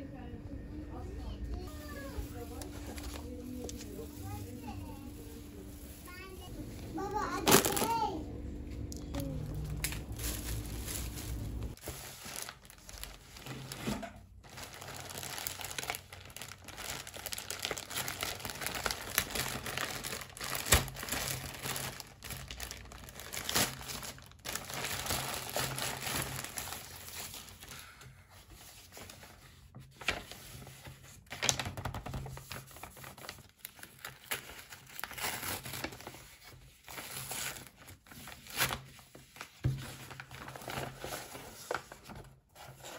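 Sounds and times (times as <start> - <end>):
paper envelope rustling: 1.7 - 8.2, 8.8 - 42.9
plastic mailer bag crinkling and tearing: 1.7 - 8.2, 8.8 - 28.0, 28.8 - 42.9.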